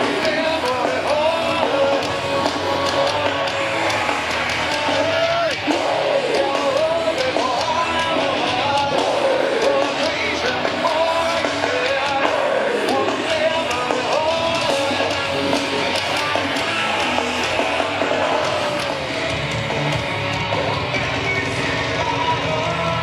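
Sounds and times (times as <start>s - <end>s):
live rock band with singer: 0.0s - 23.0s.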